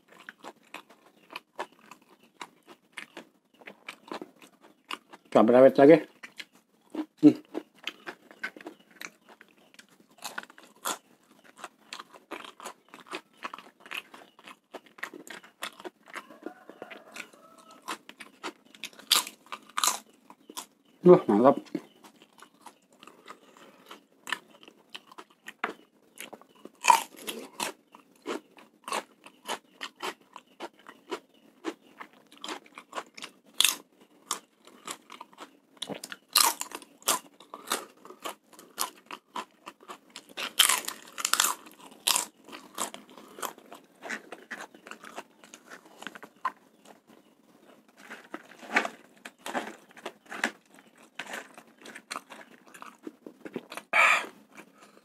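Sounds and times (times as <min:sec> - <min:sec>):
person chewing crunchy food: 0:00.0 - 0:05.4, 0:06.0 - 0:20.9, 0:21.5 - 0:55.0.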